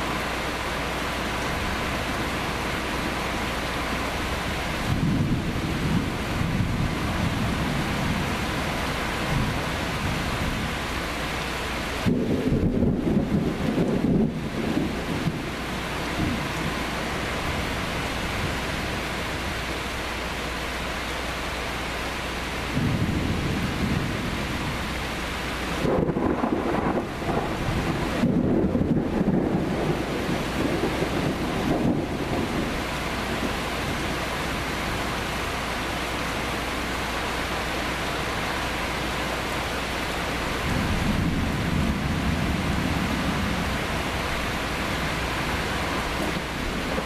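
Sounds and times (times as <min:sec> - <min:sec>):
thunder rumbling: 0:00.0 - 0:20.8, 0:22.6 - 0:47.0
heavy rain: 0:00.0 - 0:47.0.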